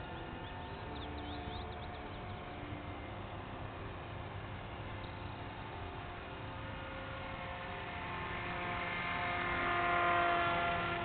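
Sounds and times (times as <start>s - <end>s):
model plane electric motor hum: 0.0s - 11.0s.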